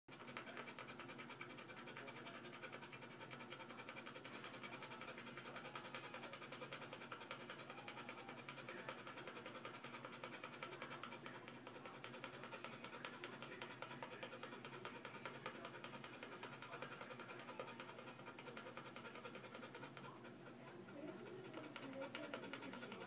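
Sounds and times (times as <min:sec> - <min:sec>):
dog panting: 0:00.1 - 0:23.0.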